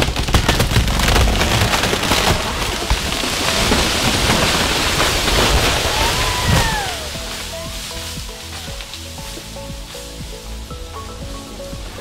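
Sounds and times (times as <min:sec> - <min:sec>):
leaves and branches rushing: 0:00.0 - 0:12.0
wood cracking: 0:00.0 - 0:12.0.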